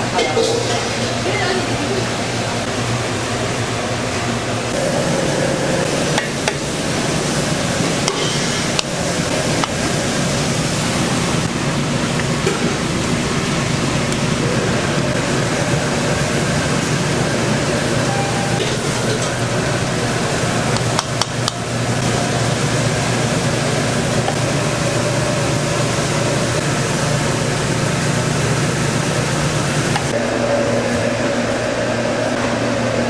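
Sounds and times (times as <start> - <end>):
busy kitchen roar: 0.0 - 33.0.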